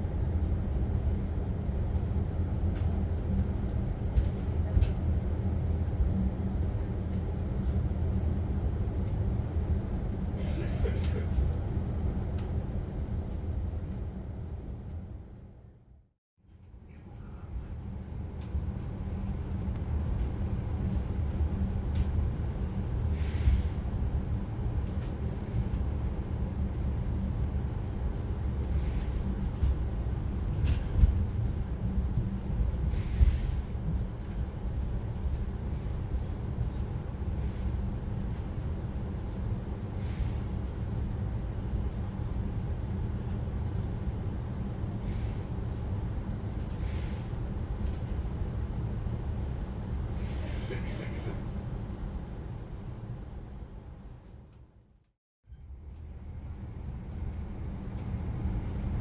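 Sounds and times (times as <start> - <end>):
train rumbling: 0.0 - 15.8, 16.5 - 54.6, 55.5 - 59.0.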